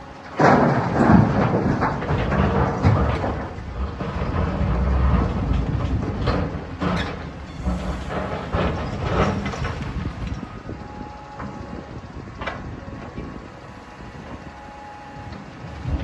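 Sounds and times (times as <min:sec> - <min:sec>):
demolition machinery rumbling: 0:00.0 - 0:16.0.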